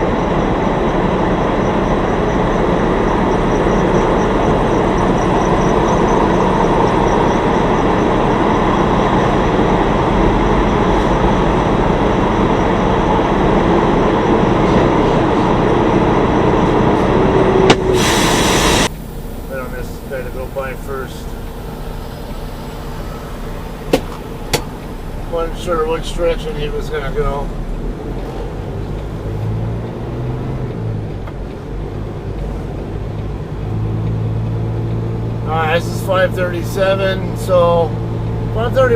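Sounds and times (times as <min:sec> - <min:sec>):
truck engine rumble: 0:00.0 - 0:38.9.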